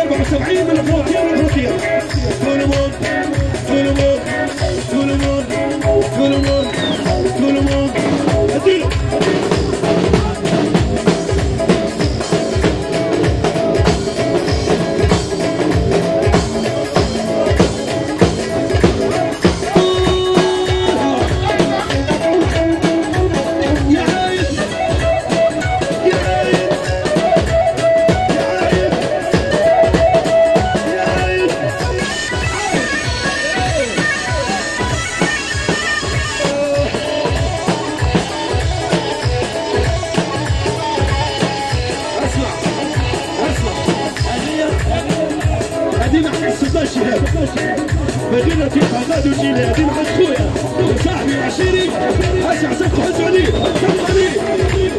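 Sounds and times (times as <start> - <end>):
loud dance music: 0.0 - 27.1, 28.2 - 54.9.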